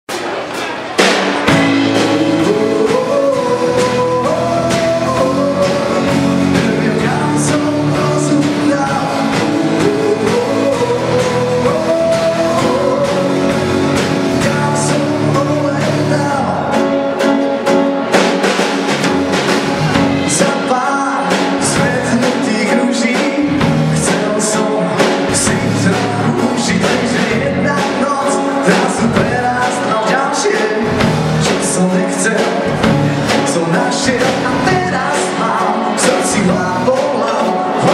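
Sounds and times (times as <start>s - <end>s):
drum kit: 0.1s - 37.9s
keyboard: 0.1s - 37.9s
acoustic guitar: 0.2s - 37.9s
man singing: 1.5s - 18.0s, 19.7s - 37.9s.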